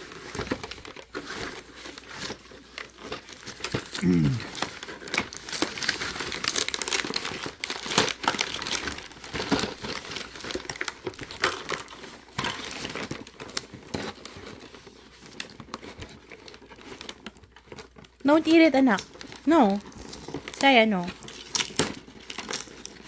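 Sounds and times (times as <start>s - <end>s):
packaging crinkling: 0.0s - 23.0s.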